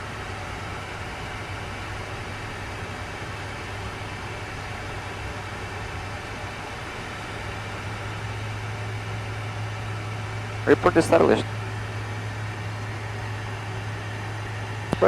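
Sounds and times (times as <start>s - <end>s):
airflow and jet engine rush: 0.0s - 15.0s
constant low hum: 0.0s - 15.0s.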